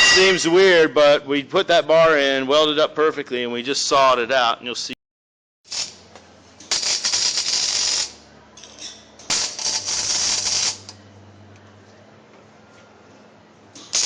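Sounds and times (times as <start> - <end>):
faint shop hum: 0.0 - 5.0, 5.7 - 14.0.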